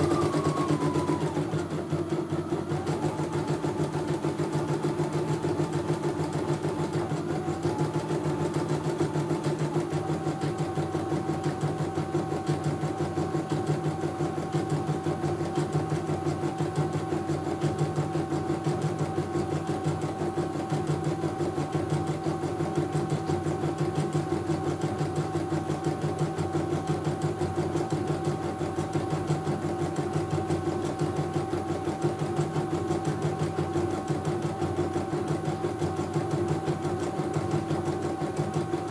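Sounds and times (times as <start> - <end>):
embroidery machine stitching: 0.0 - 38.9
faint motor whine: 0.0 - 38.9.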